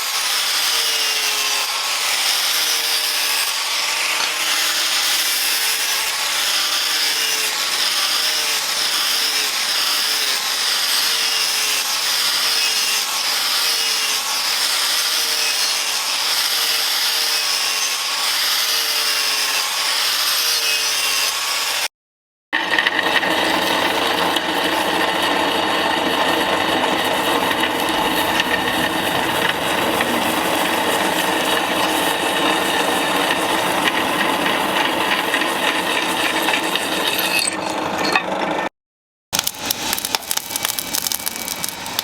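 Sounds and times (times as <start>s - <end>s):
power tool cutting wood: 0.0s - 21.9s, 22.6s - 38.2s, 39.4s - 42.0s.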